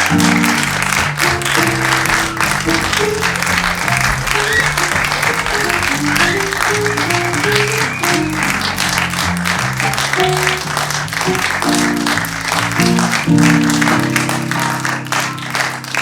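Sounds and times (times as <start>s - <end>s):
audience applauding: 0.0s - 16.0s
upbeat walk-on music: 0.0s - 16.0s.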